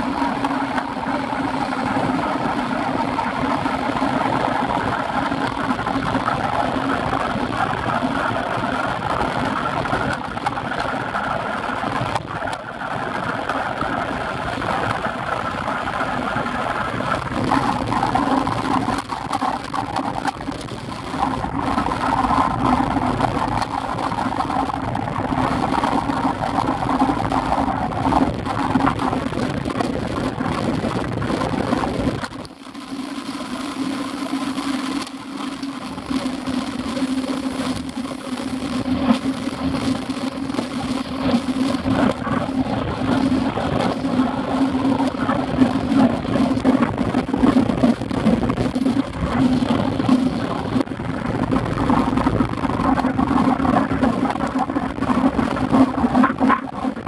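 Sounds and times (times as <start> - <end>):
bike tyres on wet road: 0.0 - 57.0
wind over microphone: 0.0 - 57.0.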